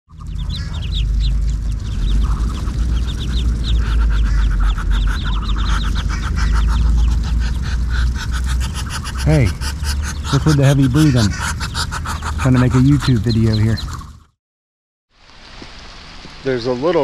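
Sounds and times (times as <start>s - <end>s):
steady low rumble: 0.1s - 14.0s
ducklings peeping: 0.1s - 14.2s.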